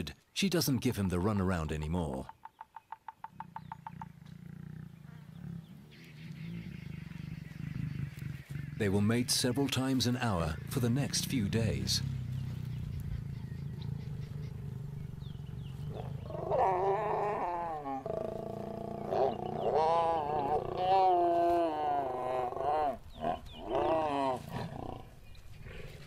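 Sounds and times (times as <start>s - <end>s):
lions growling and snarling: 3.3s - 9.3s, 10.4s - 26.0s.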